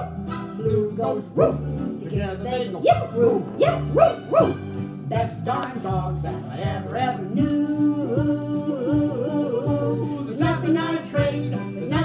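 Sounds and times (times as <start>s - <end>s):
acoustic guitar: 0.0s - 12.0s
yodel-like singing: 0.0s - 12.0s.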